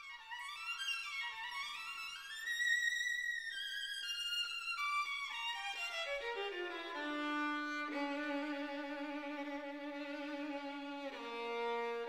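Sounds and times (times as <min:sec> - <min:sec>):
solo violin-like melody: 0:00.0 - 0:12.0.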